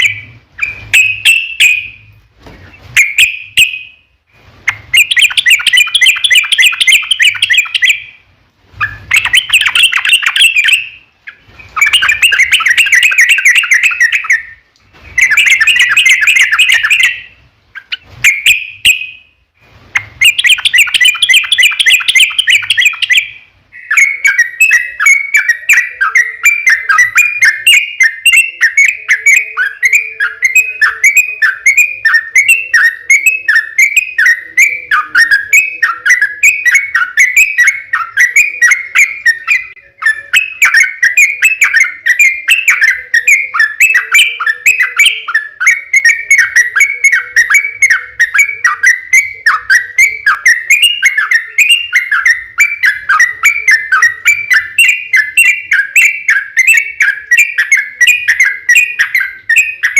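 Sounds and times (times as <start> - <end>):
bulbul singing rapid chattering song: 0.0 - 8.2, 8.8 - 59.9.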